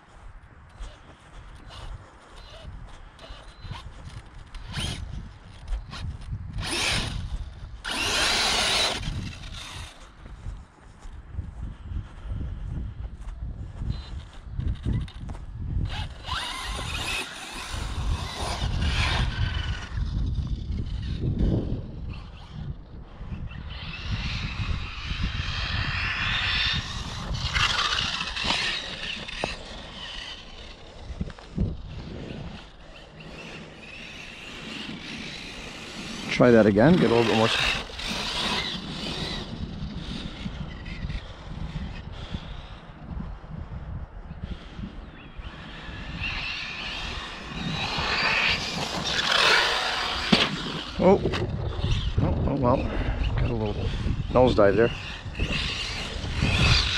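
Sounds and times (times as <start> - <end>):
wind rumble on microphone: 0.0 - 56.9
electric motor whining: 0.8 - 10.2, 13.9 - 42.8, 44.6 - 56.9.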